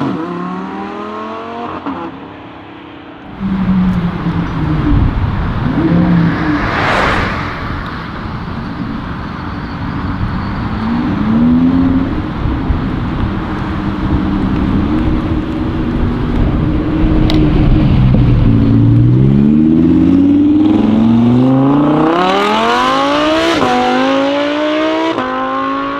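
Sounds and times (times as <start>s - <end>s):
rushing noise: 2.5s - 24.1s
sports car engine at low revs: 3.3s - 25.9s.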